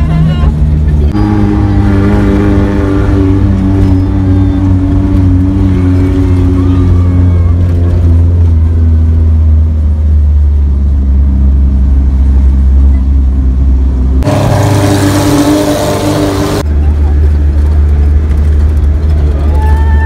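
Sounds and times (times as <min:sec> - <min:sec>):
car engine drone and road noise: 0:00.0 - 0:20.0.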